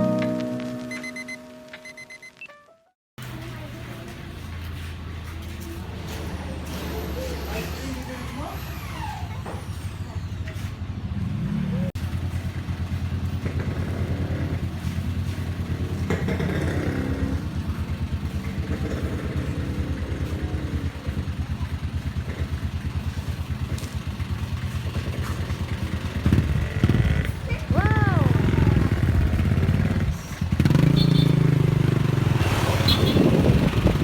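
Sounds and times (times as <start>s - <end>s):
vehicle engine running: 3.2s - 34.0s.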